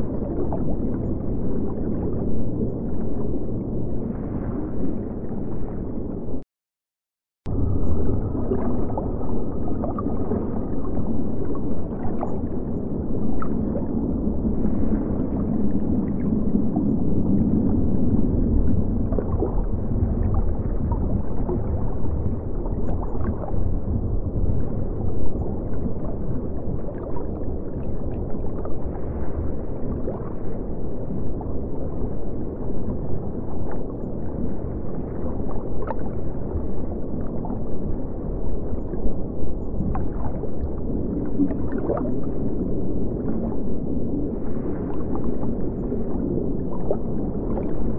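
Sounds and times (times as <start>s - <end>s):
muffled low water sound: 0.0s - 6.5s, 7.4s - 47.9s.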